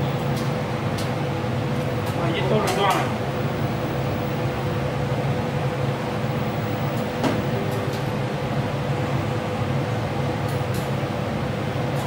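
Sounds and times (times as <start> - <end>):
mechanical drone with hum: 0.0 - 12.0.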